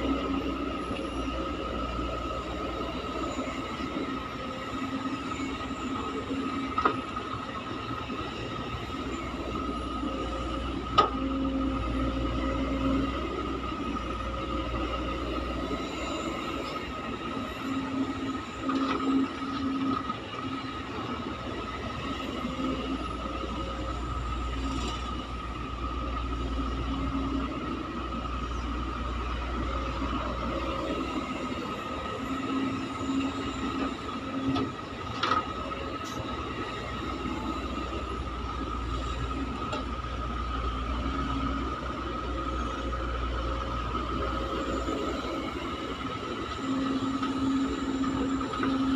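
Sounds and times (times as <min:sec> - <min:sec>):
excavator engine rumble: 0:00.0 - 0:48.9
high hydraulic whine: 0:00.0 - 0:48.9.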